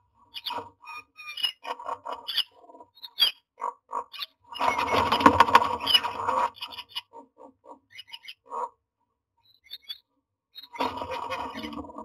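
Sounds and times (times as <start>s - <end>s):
bird short calls and clicks: 0.3s - 8.7s, 9.5s - 11.8s.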